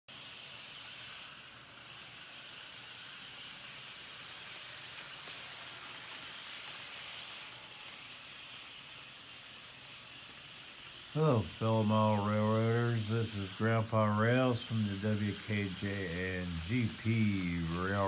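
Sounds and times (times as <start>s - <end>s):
model locomotive motor hiss: 0.1s - 18.0s.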